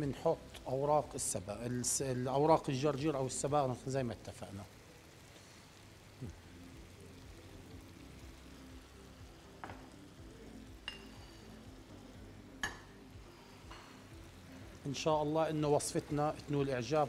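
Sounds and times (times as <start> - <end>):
pasta sizzling in a frying pan: 0.0 - 17.0.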